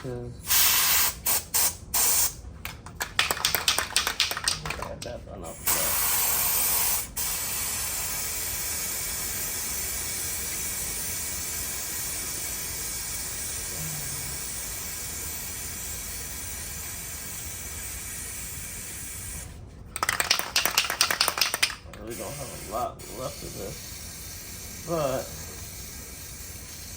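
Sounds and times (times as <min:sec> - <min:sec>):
aerosol can spraying: 0:00.5 - 0:02.4, 0:05.5 - 0:19.5, 0:20.2 - 0:26.9.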